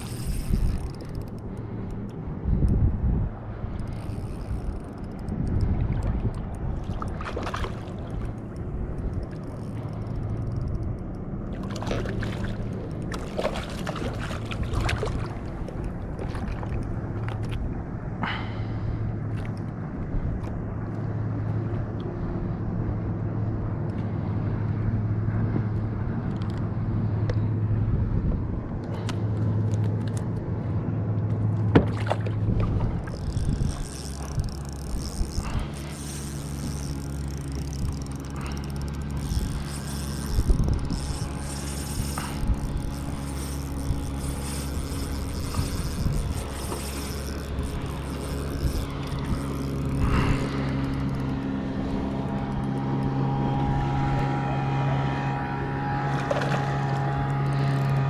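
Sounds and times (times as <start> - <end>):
low hum: 0.0 - 58.0
water noise around kayak: 0.0 - 58.0
wind: 0.0 - 58.0.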